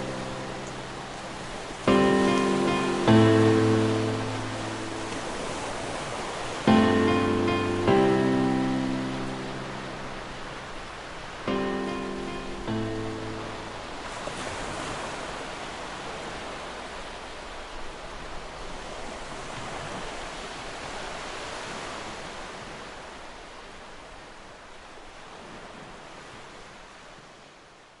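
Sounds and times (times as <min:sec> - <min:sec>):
sea waves rushing: 0:00.0 - 0:24.6.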